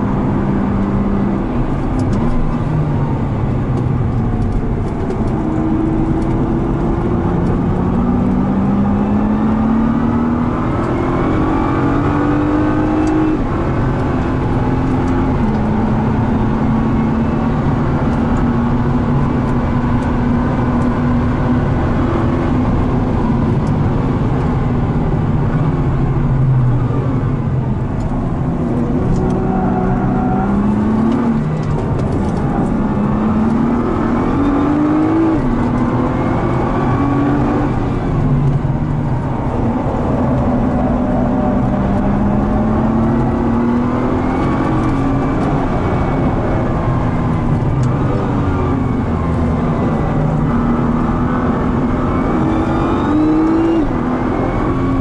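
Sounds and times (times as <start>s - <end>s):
car engine revving in cabin: 0.0s - 55.0s.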